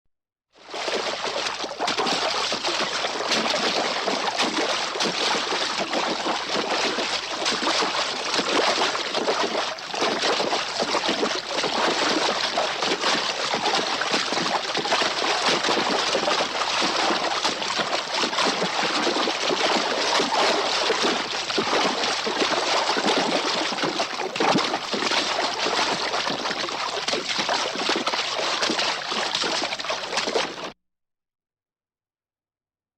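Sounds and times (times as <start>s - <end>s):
horse splashing through water: 0.6s - 30.8s
water dripping: 0.7s - 30.7s.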